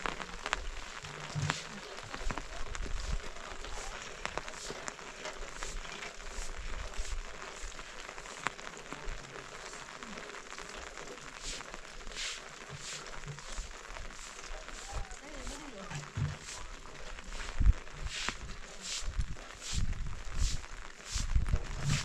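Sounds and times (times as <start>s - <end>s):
steady rain pattering: 0.0s - 22.0s.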